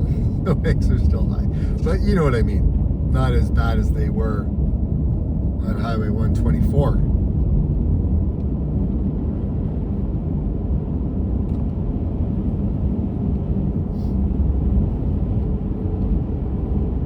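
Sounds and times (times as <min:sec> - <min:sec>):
car road and tyre rumble: 0:00.0 - 0:17.0.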